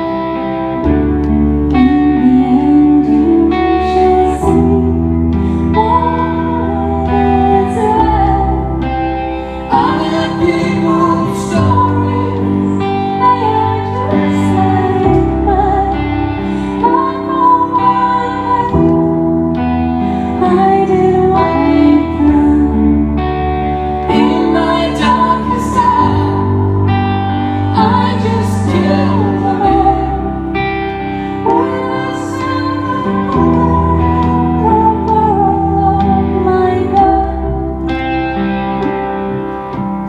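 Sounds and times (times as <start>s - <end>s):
keyboard chords and bass notes: 0.0s - 40.0s
woman singing: 1.7s - 30.7s, 31.3s - 38.0s.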